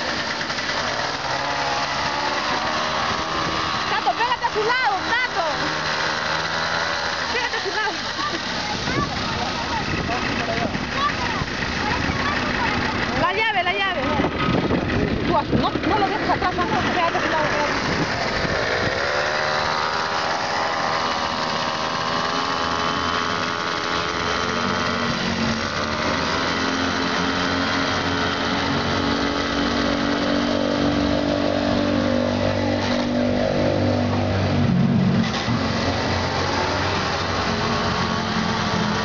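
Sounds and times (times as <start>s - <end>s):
two-stroke engine revving: 0.0s - 39.0s.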